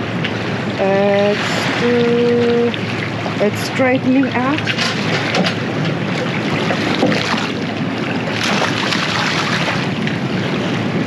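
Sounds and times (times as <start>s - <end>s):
sea water: 0.0s - 11.0s.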